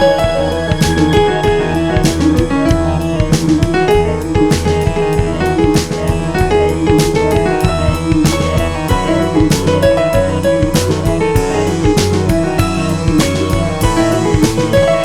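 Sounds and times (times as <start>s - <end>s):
piano music with bass and drums: 0.0s - 15.0s.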